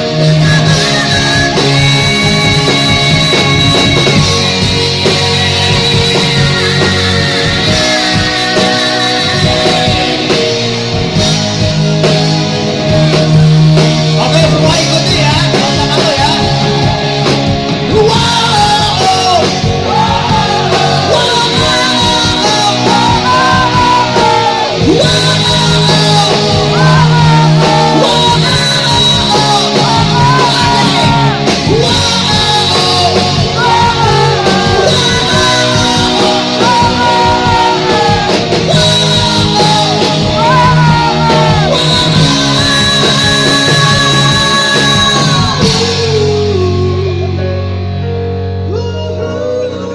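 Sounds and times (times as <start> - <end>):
rock song with singer and band: 0.0 - 49.9.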